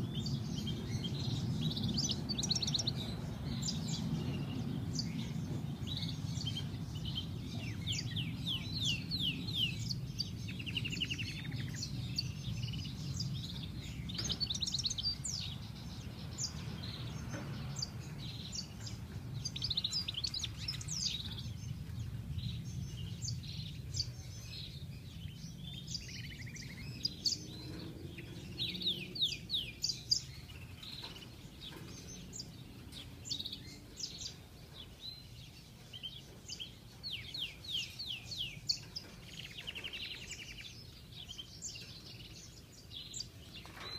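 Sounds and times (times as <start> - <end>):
bird twittering song: 0.0 - 43.9.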